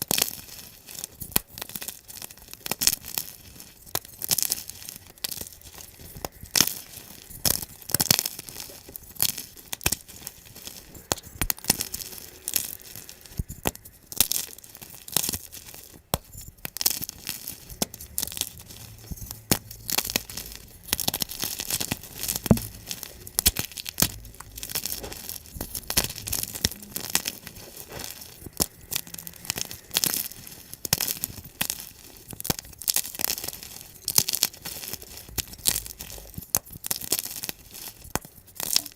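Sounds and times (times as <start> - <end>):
chalk crunching: 0.0 - 38.9.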